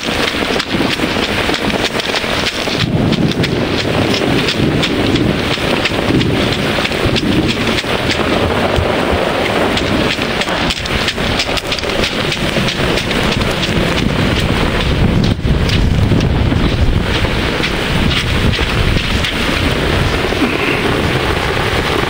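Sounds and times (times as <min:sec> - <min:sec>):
heavy rain hiss: 0:00.0 - 0:22.0
raindrops hitting close: 0:00.0 - 0:22.0
wind rumble on microphone: 0:00.0 - 0:22.0.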